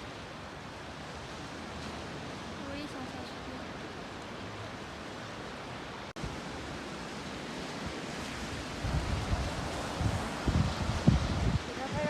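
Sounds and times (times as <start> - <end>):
sea surf at the shore: 0.0 - 12.0
wind gusts on microphone: 0.0 - 12.0.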